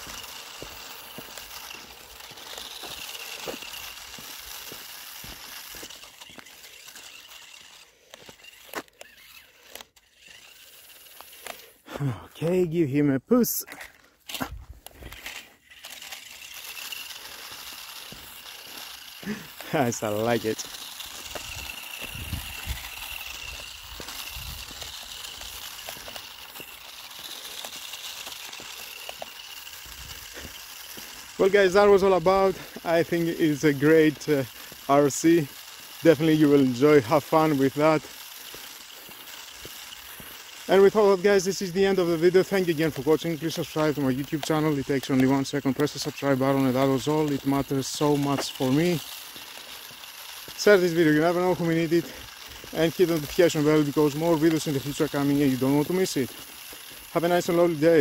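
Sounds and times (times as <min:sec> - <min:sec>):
scattered clicks: 0:00.0 - 0:11.8, 0:13.4 - 0:58.0
toy car motor whine: 0:00.0 - 0:58.0
tyres crunching on rough ground: 0:00.0 - 0:58.0.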